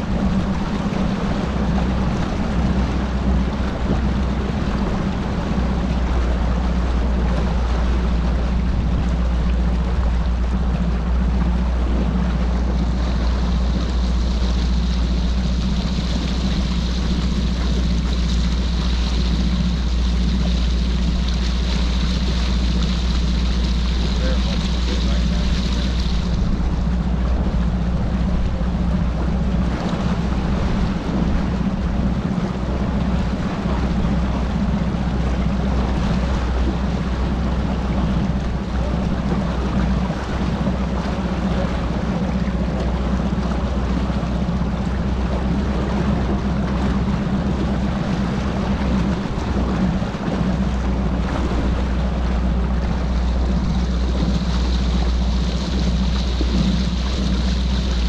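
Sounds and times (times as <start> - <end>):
outboard motor idling: 0.0 - 58.0
water washing along hull: 0.0 - 58.0
wind on microphone: 0.0 - 58.0.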